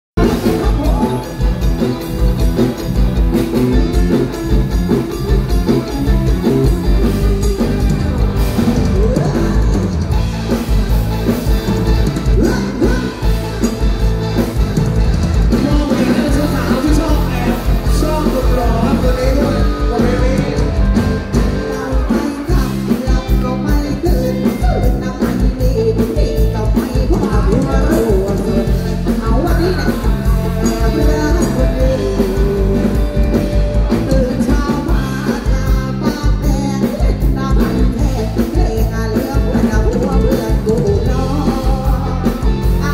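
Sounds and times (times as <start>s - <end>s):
drum kit beat: 0.2s - 42.9s
live band music: 0.2s - 42.9s.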